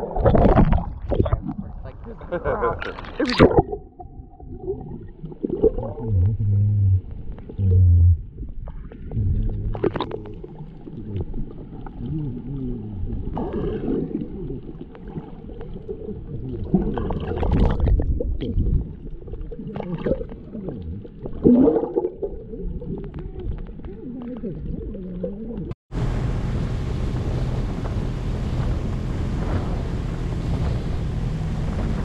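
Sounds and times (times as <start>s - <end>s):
muffled underwater gurgling: 0.0s - 25.8s.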